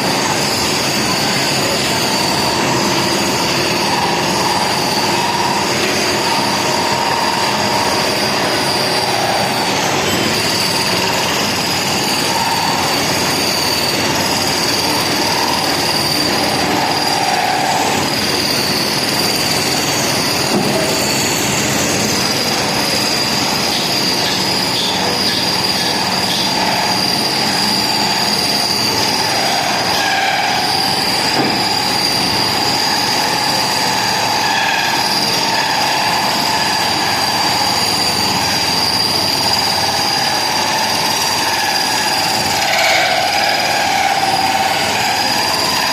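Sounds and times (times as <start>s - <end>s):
dense grinding noise: 0.0s - 45.9s
high-pitched metal squeal: 0.0s - 45.9s
metal-cutting machine running: 0.0s - 45.9s.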